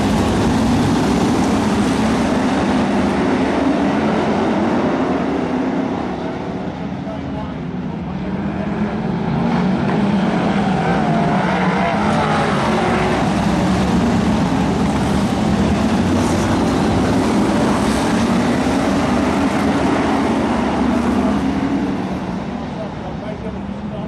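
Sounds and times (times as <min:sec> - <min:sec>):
racing car engines: 0:00.0 - 0:24.0.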